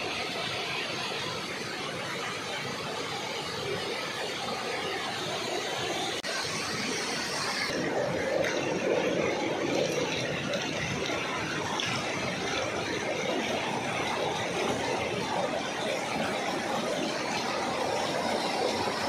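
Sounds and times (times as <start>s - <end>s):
waterfall rushing over rock: 0.0s - 19.0s.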